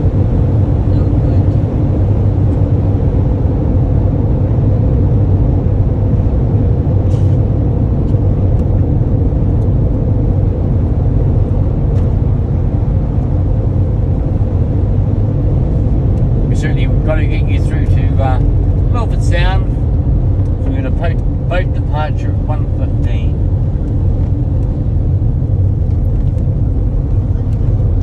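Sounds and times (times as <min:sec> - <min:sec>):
coach engine and tyre rumble: 0:00.0 - 0:28.0.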